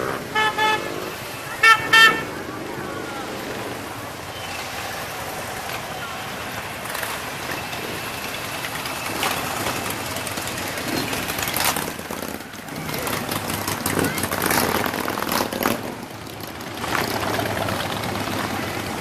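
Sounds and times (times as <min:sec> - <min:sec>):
motorcycles riding past: 0:00.0 - 0:19.0
spectators' voices: 0:00.0 - 0:19.0.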